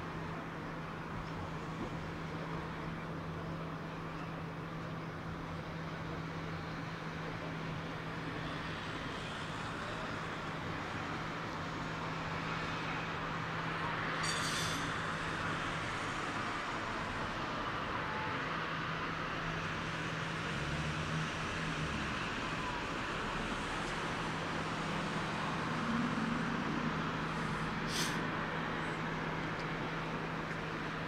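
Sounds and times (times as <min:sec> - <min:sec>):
distant traffic noise: 0:00.1 - 0:31.0
tram pulling away: 0:00.1 - 0:31.0.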